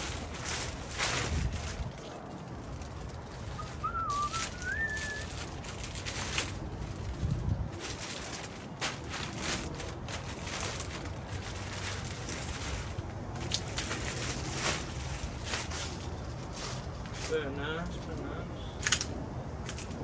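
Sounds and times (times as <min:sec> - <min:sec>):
plastic bag rustling: 0:00.0 - 0:17.4.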